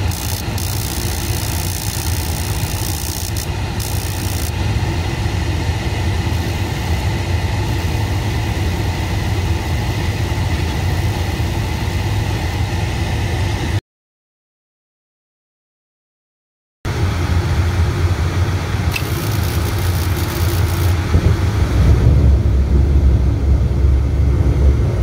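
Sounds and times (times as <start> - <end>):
hvac equipment drone: 0.0 - 13.8, 16.9 - 25.0.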